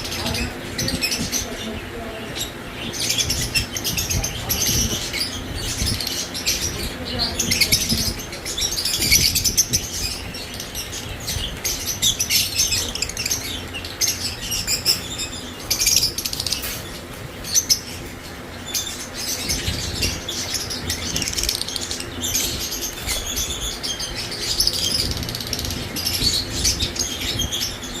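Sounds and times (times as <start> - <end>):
lovebirds chattering: 0.0 - 28.0.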